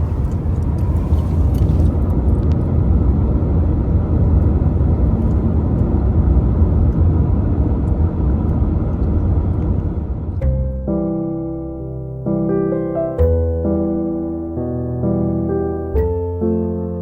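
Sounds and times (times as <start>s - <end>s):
moving car rumble: 0.0s - 16.9s.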